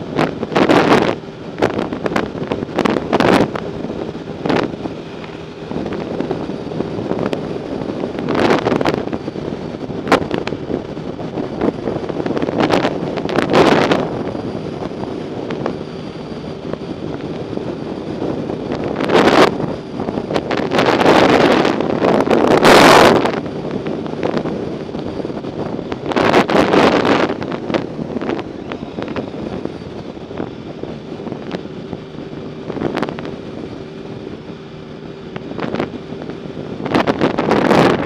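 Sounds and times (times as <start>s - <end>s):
wind on microphone: 0.0s - 38.0s.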